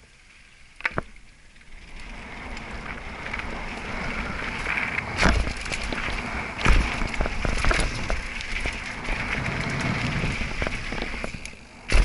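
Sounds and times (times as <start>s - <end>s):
tyres rolling over dirt: 0.8s - 12.0s
wind rush on microphone: 1.8s - 12.0s.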